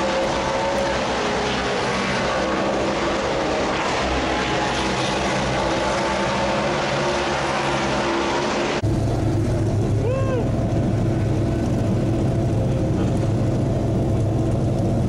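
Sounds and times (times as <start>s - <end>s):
car engines idling: 0.0s - 15.0s
din of engines and machinery: 0.0s - 15.0s.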